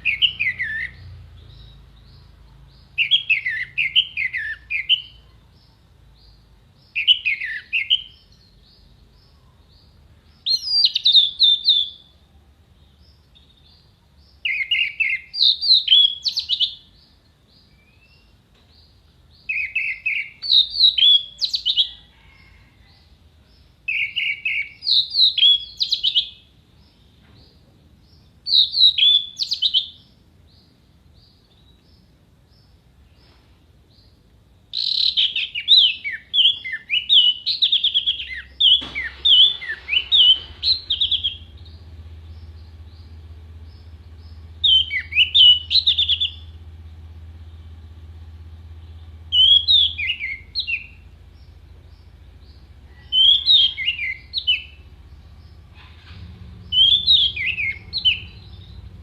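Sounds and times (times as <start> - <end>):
bird singing whistled notes: 0.0 - 22.0, 23.6 - 27.3, 28.2 - 32.8, 33.9 - 46.6, 48.8 - 56.0, 56.6 - 59.0.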